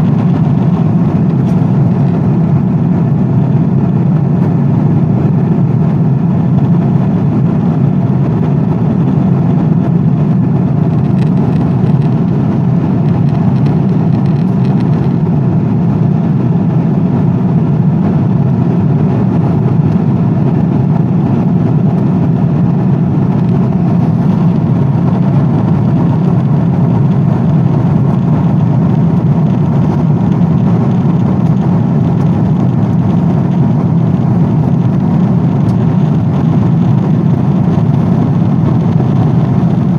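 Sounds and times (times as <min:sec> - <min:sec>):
airplane drone in flight: 0:00.0 - 0:39.9.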